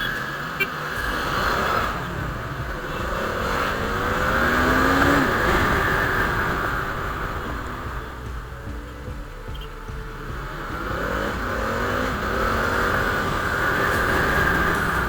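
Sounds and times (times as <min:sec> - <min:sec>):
engine rising in pitch: 0:00.0 - 0:15.0.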